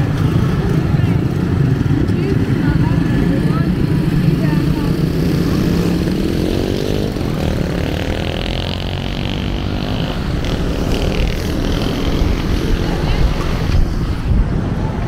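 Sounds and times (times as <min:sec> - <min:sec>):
small motorcycles accelerating: 0:00.0 - 0:15.0
street traffic: 0:00.0 - 0:15.0.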